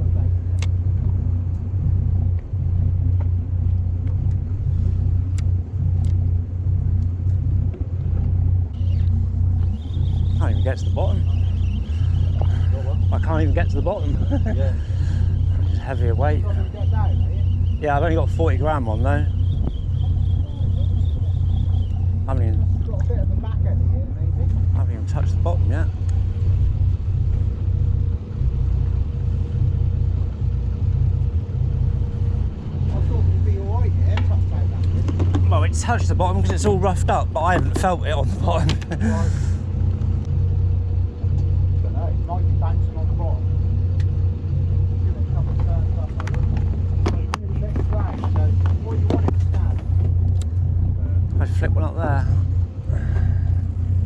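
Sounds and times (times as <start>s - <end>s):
boat engine droning: 0.0s - 54.0s
faint steady hum: 0.0s - 54.0s.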